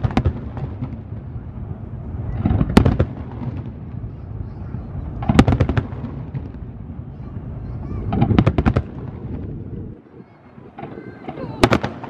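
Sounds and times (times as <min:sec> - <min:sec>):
firework shells bursting: 0:00.0 - 0:04.3, 0:04.9 - 0:09.5, 0:10.7 - 0:12.0
continuous low rumble: 0:00.0 - 0:12.0.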